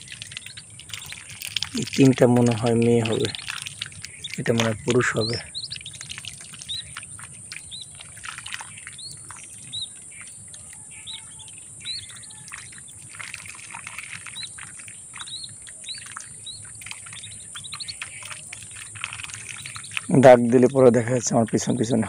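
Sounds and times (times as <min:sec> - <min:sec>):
ducklings peeping: 0:00.0 - 0:22.0
faint clicks and rustles: 0:00.0 - 0:22.0.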